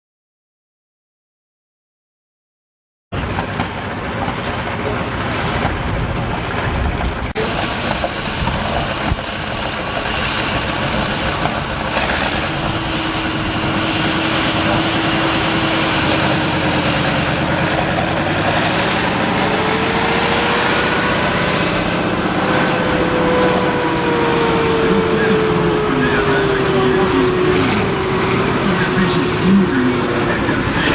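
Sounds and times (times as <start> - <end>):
tractor engine running loud: 3.2 - 30.9
engine whine rising in pitch: 4.8 - 30.9.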